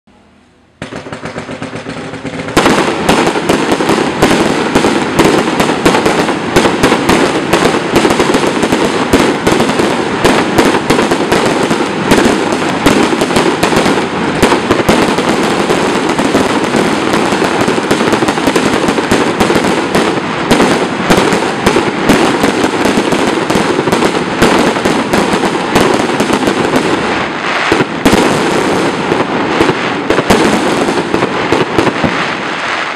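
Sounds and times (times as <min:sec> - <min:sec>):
firework rapid bangs: 0:00.8 - 0:32.9.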